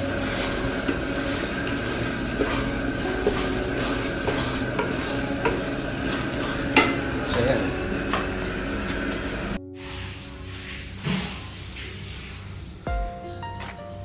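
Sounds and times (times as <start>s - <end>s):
food sizzling in a pan: 0.0s - 12.6s
utensil scraping a pan: 0.0s - 12.8s.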